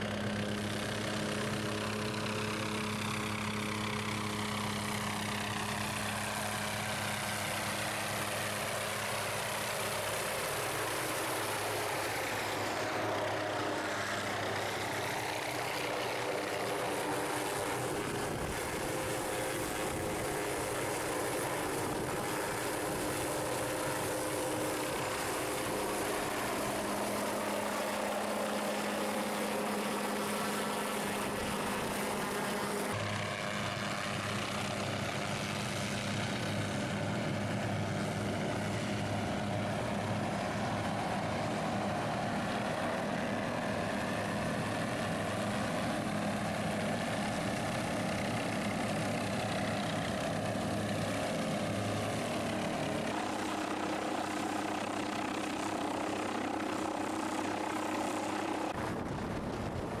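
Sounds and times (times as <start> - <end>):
helicopter flying overhead: 0.0 - 60.0
propeller engines: 0.0 - 60.0.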